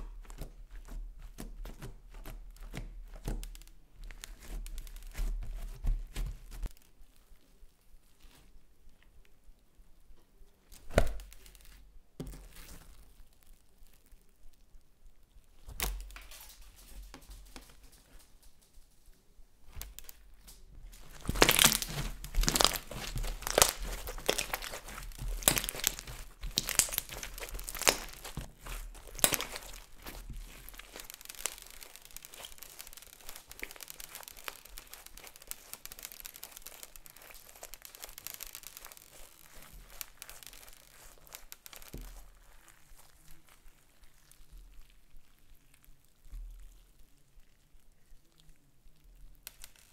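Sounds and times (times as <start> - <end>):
slime with foam beads crackling: 0.0 - 49.9.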